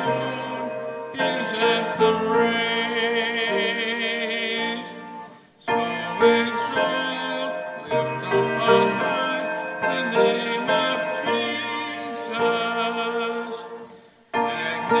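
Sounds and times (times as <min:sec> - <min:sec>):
held melody with vibrato: 0:00.0 - 0:15.0
keyboard accompaniment: 0:00.0 - 0:15.0.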